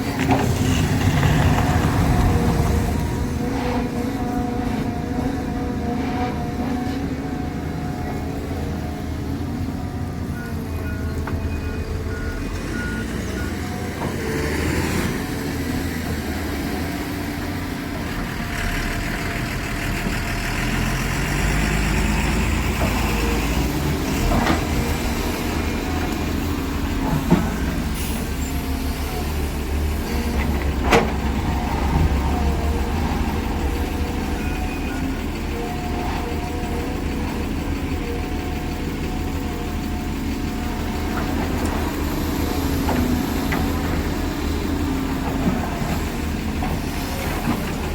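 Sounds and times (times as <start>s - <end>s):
diesel excavator engine: 0.0s - 47.9s.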